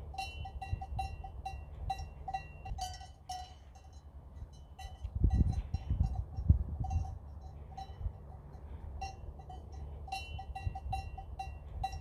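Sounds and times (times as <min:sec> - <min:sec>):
sheep bells clanking: 0:00.0 - 0:12.0.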